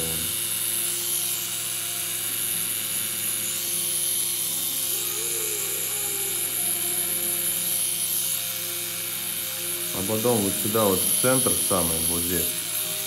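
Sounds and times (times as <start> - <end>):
tattoo machine buzzing: 0.0 - 13.0.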